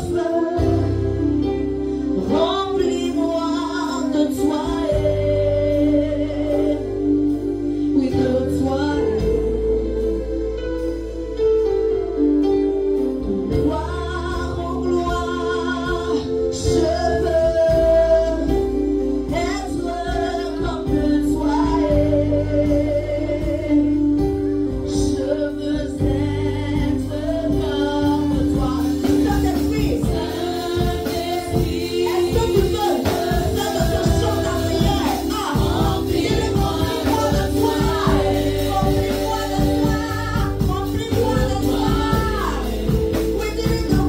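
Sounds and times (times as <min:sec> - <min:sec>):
women singing: 0:00.0 - 0:11.2, 0:13.4 - 0:44.0
instrumental chords: 0:00.0 - 0:44.0
low bass notes: 0:00.0 - 0:44.0.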